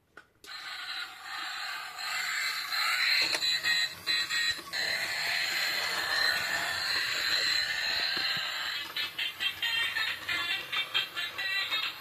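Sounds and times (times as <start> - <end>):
toy electronic sound: 0.5 - 12.0
toy truck mechanical whir: 0.5 - 12.0.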